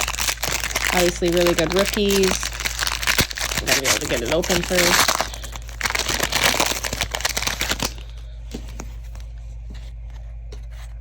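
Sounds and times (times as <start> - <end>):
plastic wrapper crinkling and tearing: 0.0 - 9.2.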